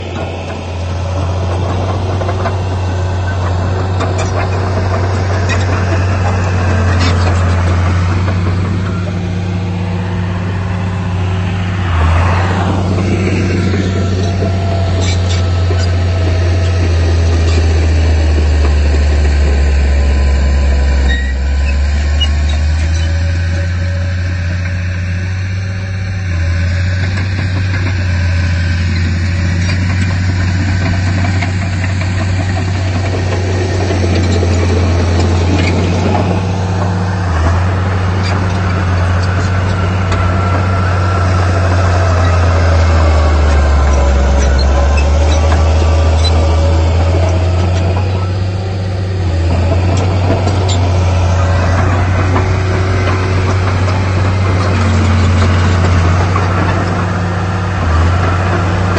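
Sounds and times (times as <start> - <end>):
heavy diesel engine droning: 0.0 - 58.9.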